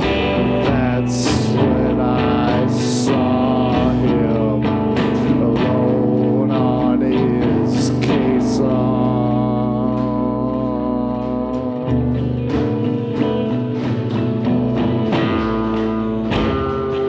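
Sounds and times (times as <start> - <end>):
solo guitar playing: 0.0 - 17.0.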